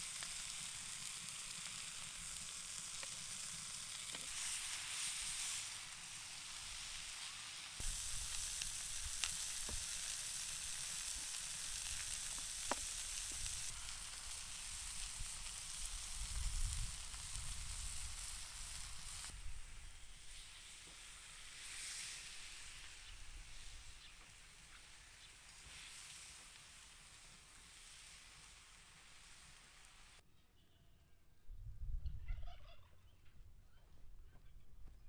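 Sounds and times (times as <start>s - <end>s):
food sizzling as it fries: 0.0s - 30.2s.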